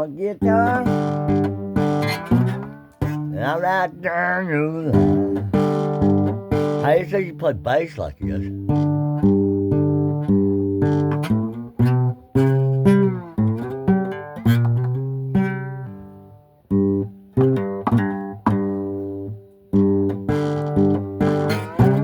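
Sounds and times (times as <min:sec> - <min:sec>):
slide guitar plucked notes: 0:00.0 - 0:22.0.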